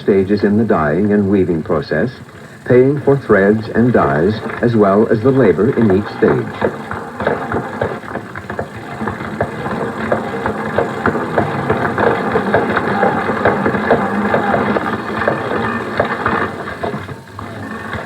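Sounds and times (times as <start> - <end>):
continuous mechanical rumble: 0.0 - 18.0.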